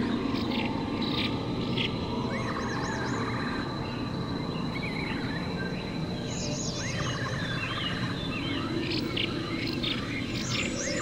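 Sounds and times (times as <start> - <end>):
birds chirping and warbling: 0.0 - 11.0
high insect drone: 0.0 - 11.0.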